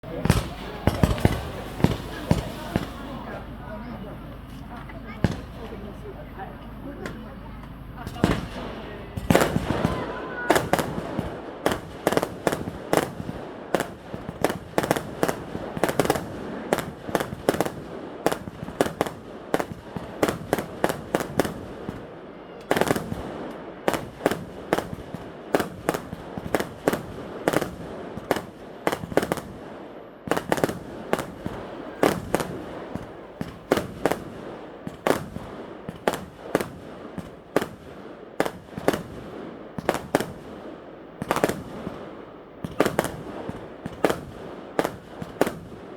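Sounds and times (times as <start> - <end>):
fireworks bangs and cracks: 0.0 - 45.9.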